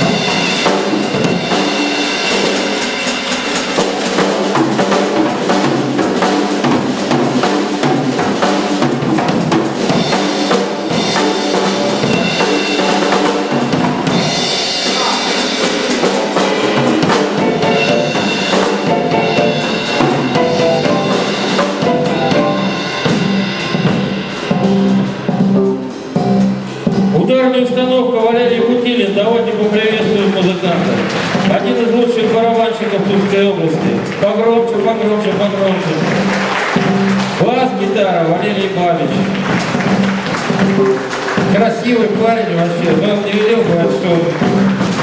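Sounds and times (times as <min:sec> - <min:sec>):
jazz drum kit playing: 0:00.0 - 0:45.0.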